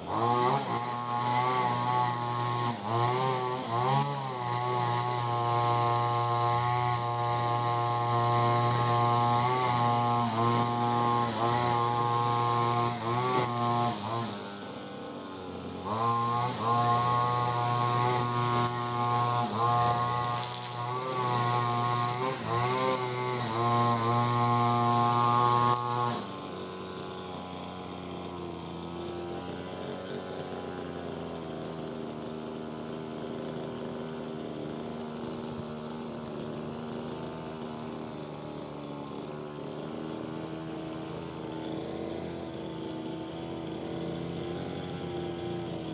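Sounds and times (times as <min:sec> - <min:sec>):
brush cutter engine revving: 0:00.0 - 0:45.9.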